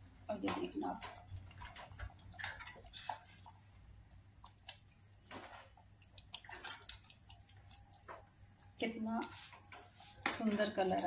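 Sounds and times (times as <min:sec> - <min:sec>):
spoon stirring thick gravy: 0:00.3 - 0:11.0.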